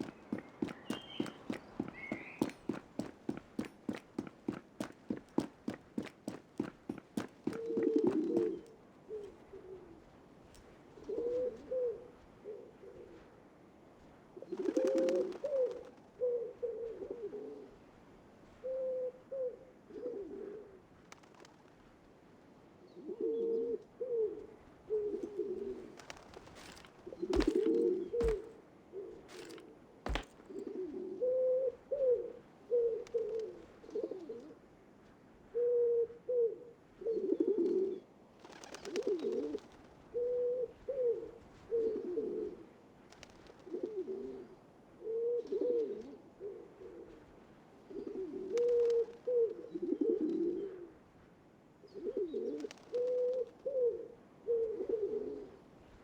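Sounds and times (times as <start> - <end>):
cooing bird calls: 0.0 - 10.1, 11.0 - 13.3, 14.4 - 17.9, 18.6 - 21.6, 22.8 - 34.6, 35.5 - 51.0, 51.9 - 55.6.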